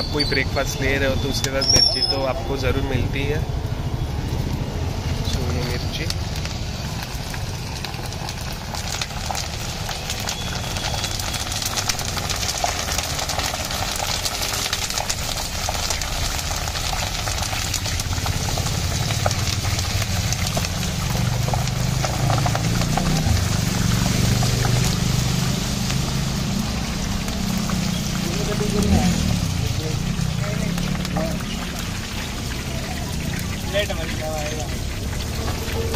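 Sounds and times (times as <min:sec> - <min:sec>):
chillies sizzling in hot oil: 0:00.0 - 0:35.9.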